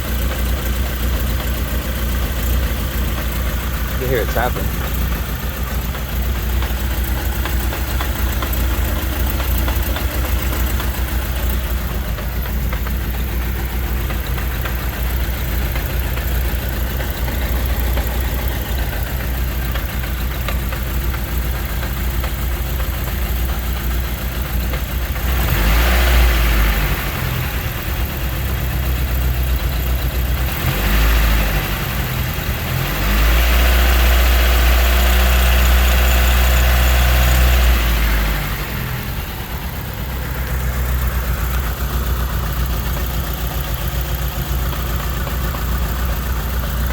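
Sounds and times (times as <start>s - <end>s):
misfiring car engine idling: 0.0s - 46.9s.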